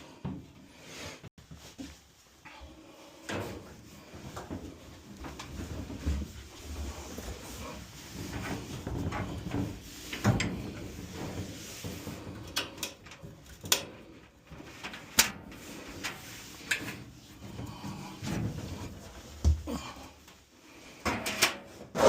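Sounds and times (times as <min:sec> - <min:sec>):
rustle of handling: 0:00.8 - 0:20.5.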